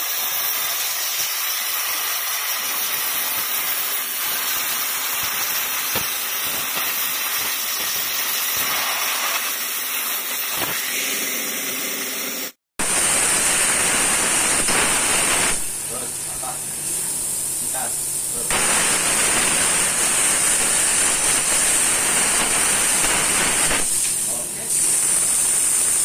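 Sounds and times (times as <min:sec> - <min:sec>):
plasma cutter hissing: 0:00.0 - 0:26.0.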